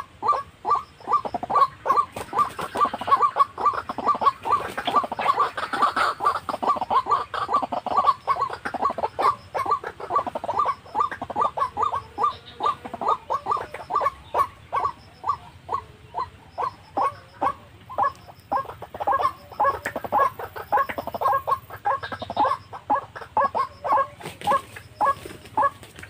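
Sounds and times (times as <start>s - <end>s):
bird calls with falling notes: 0.0s - 26.0s.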